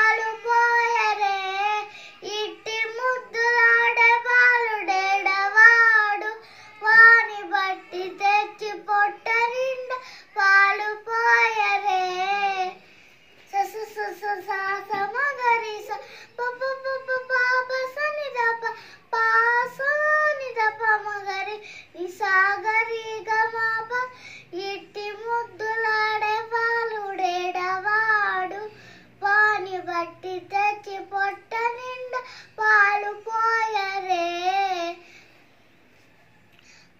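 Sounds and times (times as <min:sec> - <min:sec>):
girl singing unaccompanied: 0:00.0 - 0:35.3.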